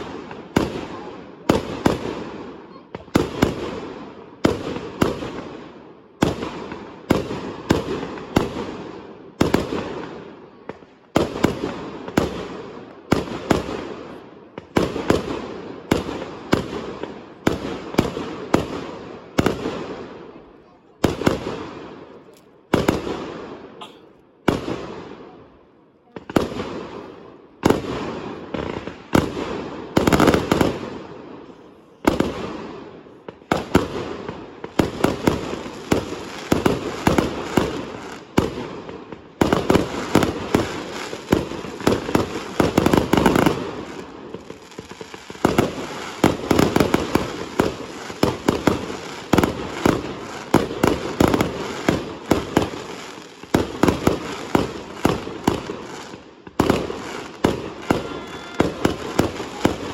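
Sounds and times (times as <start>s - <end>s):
fireworks banging and crackling: 0.0s - 59.9s.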